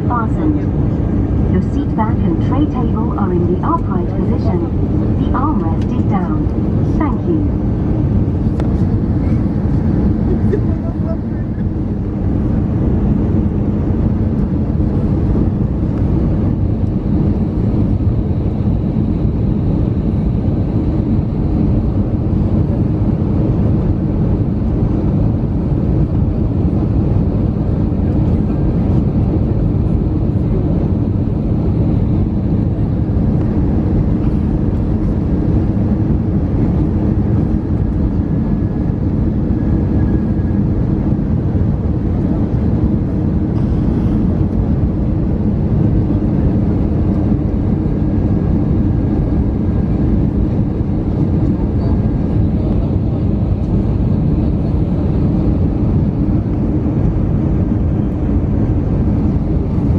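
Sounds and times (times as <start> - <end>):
airplane cabin engine rush: 0.0 - 59.9.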